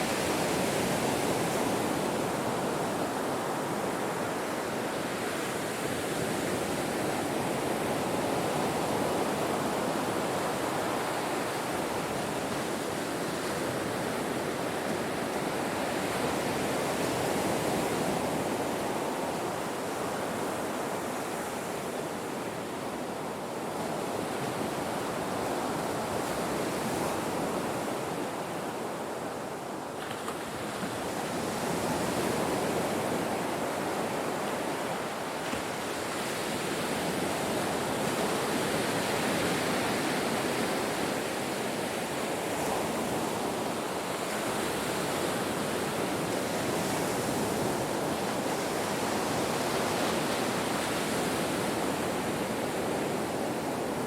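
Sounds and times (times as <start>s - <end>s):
ocean surf washing onto shore: 0.0s - 54.0s.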